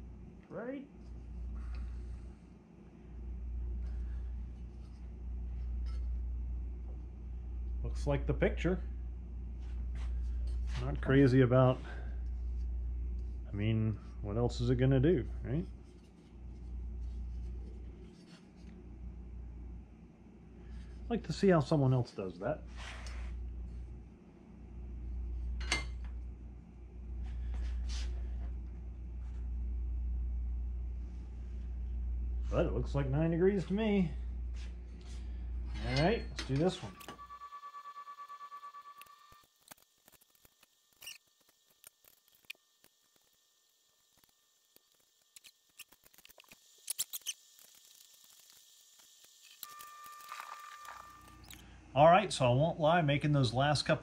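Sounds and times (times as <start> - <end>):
faint high whine: 0.0 - 54.0
steady low hum: 0.0 - 54.0.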